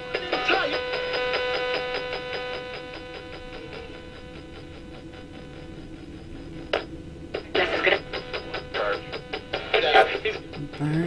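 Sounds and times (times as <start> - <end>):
broadcast music fragments: 0.0 - 11.0
radio static bursts: 0.0 - 11.0.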